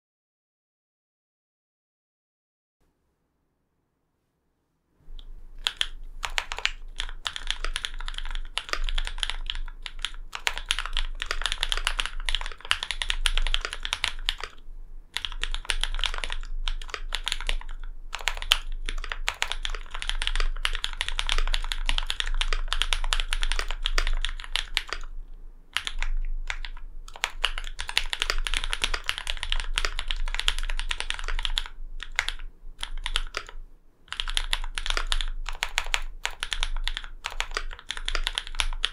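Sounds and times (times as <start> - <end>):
mechanical keyboard key clacks: 5.6 - 14.6, 15.2 - 25.1, 25.8 - 38.9.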